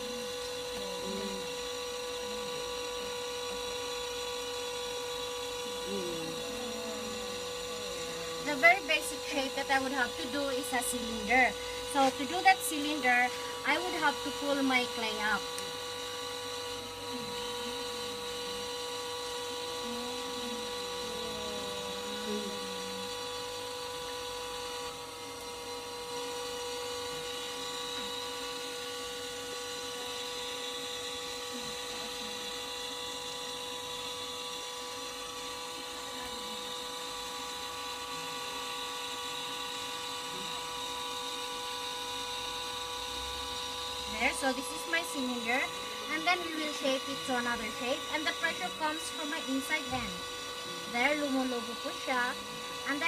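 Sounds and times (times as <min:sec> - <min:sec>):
potter's wheel motor whine: 0:00.0 - 0:53.0.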